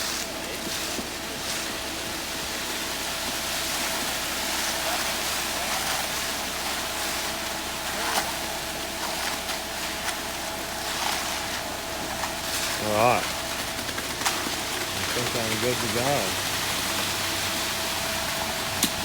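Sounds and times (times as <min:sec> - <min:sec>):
concrete pour rushing hiss: 0:00.0 - 0:19.0
faint machine hum: 0:00.0 - 0:19.0.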